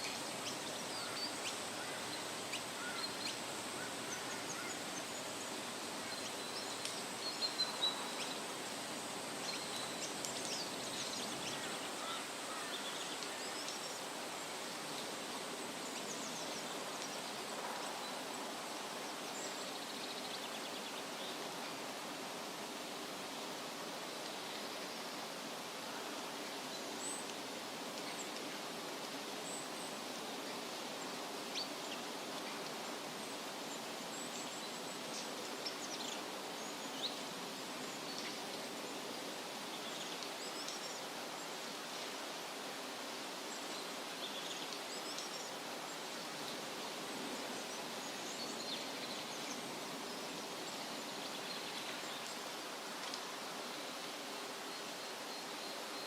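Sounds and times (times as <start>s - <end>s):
wind rustling through leaves: 0.0s - 56.0s.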